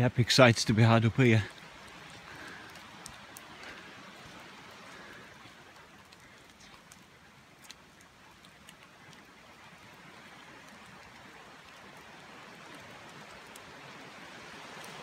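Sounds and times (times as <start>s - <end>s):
rain falling on foliage: 0.0s - 15.0s
light ticks: 1.5s - 13.7s.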